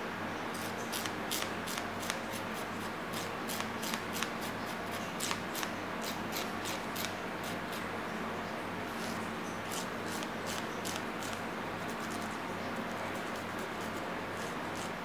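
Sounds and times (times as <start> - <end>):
nail file rasping on fingernails: 0.6 - 7.8, 9.7 - 15.0.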